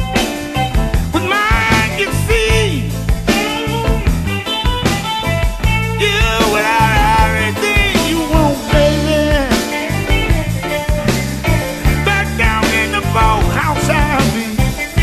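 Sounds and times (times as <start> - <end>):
bass line: 0.0 - 15.0
bending electric guitar lead line: 0.0 - 15.0
drum kit: 0.0 - 15.0.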